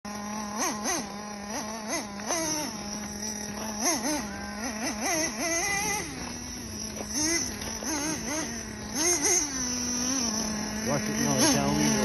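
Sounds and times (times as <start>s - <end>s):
nitro engine idling and revving: 0.0s - 12.0s.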